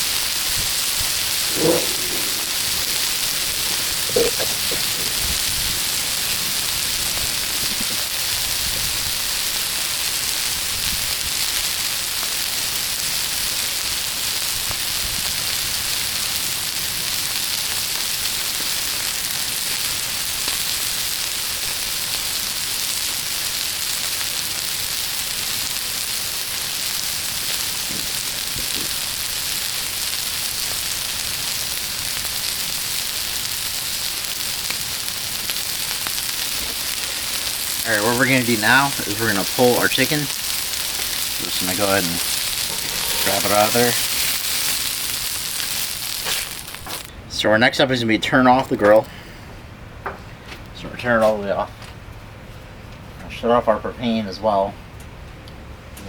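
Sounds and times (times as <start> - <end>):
food sizzling on a griddle: 0.0 - 47.1.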